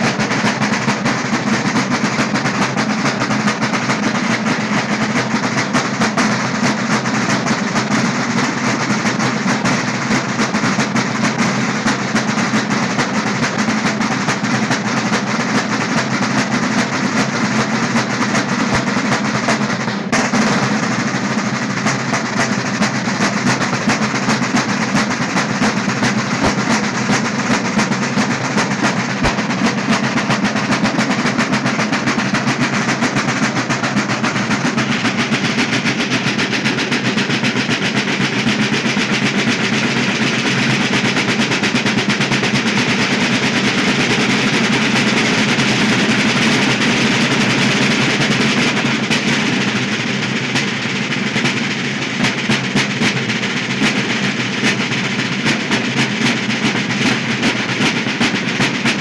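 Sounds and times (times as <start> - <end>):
fast drumming with rolls: 0.0 - 59.0.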